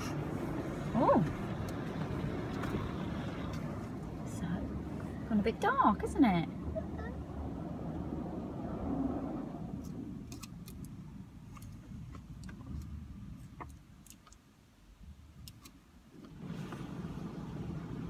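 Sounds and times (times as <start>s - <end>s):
muffled car wash rumble: 0.0s - 18.0s.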